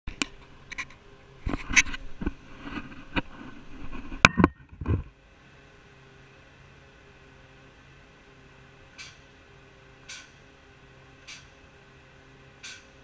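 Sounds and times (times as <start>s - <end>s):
truck idling hum: 0.1s - 4.2s, 5.1s - 13.0s.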